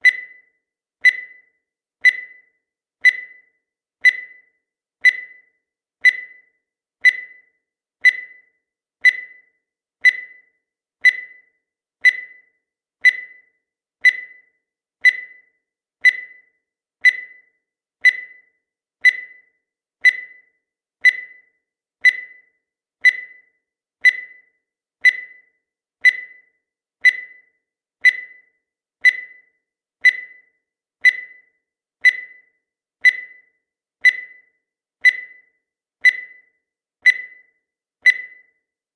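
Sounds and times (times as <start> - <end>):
short electronic beeps: 0.0 - 38.6.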